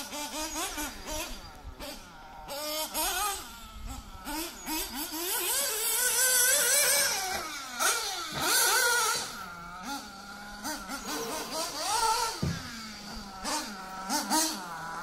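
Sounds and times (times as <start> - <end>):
rc car motor revving: 0.0 - 15.0.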